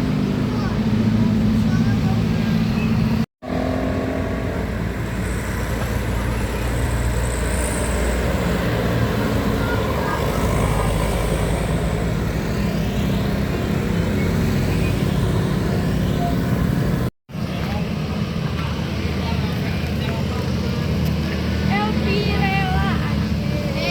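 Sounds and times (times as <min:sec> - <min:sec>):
large vehicle engine humming: 0:00.0 - 0:23.9
tyre and road noise: 0:00.0 - 0:23.9.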